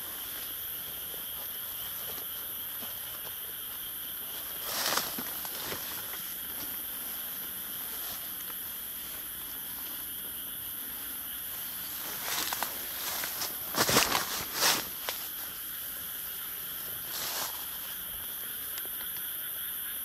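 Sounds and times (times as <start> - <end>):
footsteps rustling through grass and leaves: 0.0 - 19.4
night insects droning: 0.0 - 20.0.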